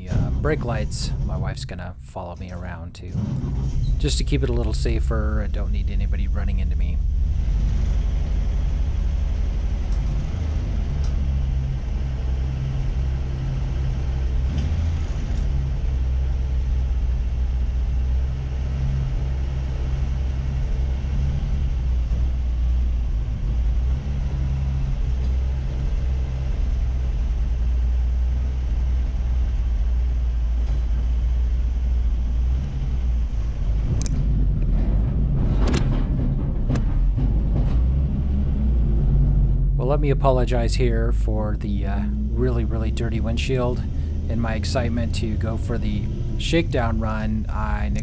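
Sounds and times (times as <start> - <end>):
truck engine rumbling: 0.0 - 48.0.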